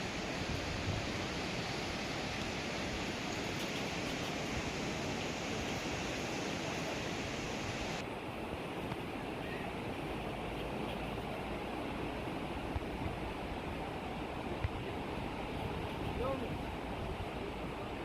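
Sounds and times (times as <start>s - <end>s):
sea surf on a beach: 0.0s - 18.0s
wind: 0.0s - 18.0s.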